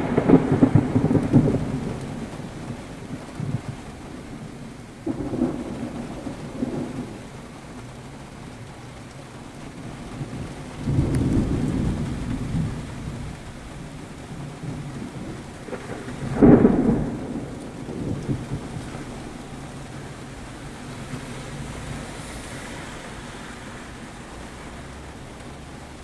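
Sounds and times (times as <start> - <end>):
thunder rumbling: 0.0 - 26.0.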